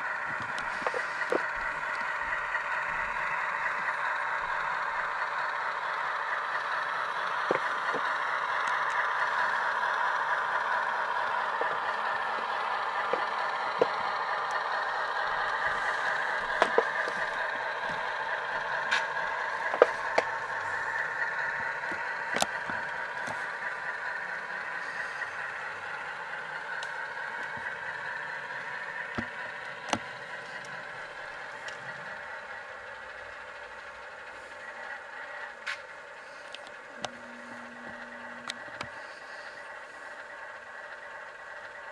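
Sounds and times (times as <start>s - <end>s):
diesel engine sound from small speaker: 0.0s - 41.9s.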